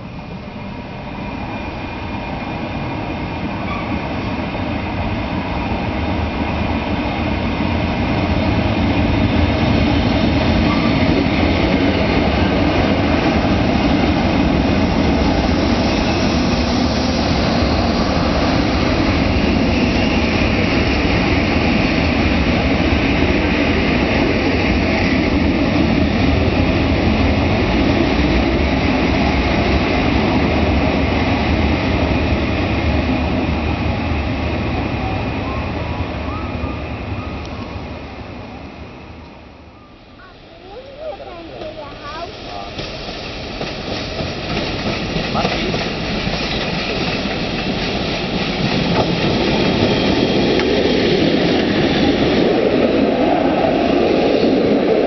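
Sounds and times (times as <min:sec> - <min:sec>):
train rail rumble: 0:00.0 - 0:55.0.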